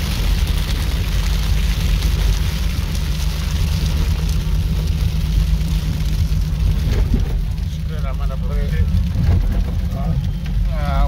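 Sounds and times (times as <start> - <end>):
hail pattering on car roof: 0.0 - 11.0
car cabin rumble: 1.5 - 11.0.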